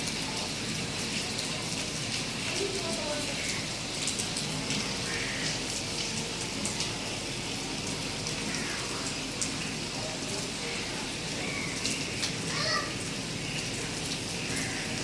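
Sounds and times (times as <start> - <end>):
rain patter: 0.0 - 15.0.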